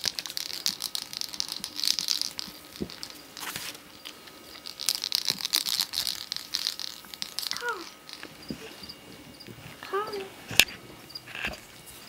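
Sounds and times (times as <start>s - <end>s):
rustling crinkling noise: 0.0s - 12.0s.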